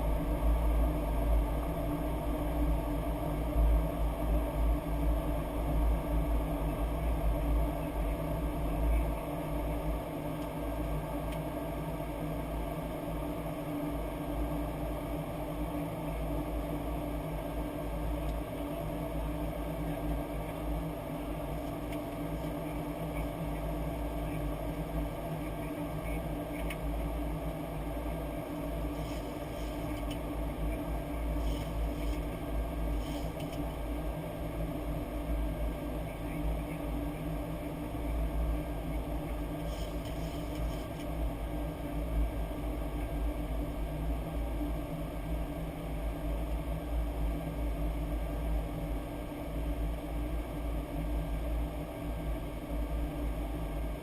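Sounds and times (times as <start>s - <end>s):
airflow and engine rumble: 0.0s - 54.0s
constant hum: 0.0s - 54.0s.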